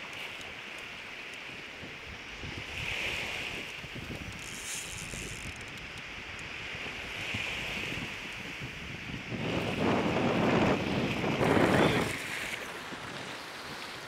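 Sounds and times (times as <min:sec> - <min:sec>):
wind buffeting microphone: 0:01.8 - 0:14.0
surf breaking on beach: 0:02.4 - 0:14.0.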